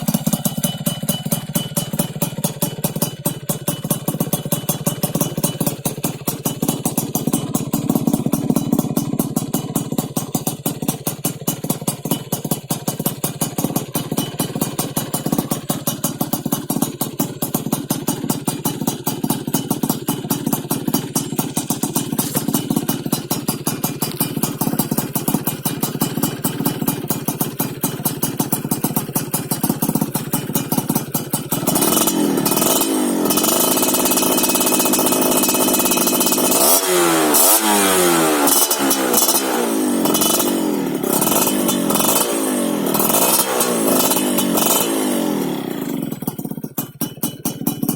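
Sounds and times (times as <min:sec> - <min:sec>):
two-stroke engine idling and revving: 0:00.0 - 0:47.9.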